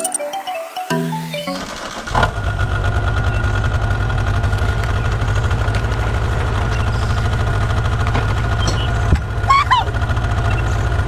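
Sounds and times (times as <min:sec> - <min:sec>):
heavy engine idling: 0:01.2 - 0:11.0.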